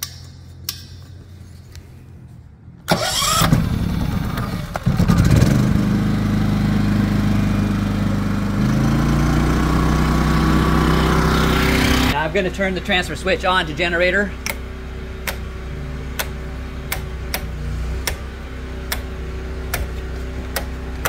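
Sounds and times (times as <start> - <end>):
generator engine running: 2.8 - 21.0.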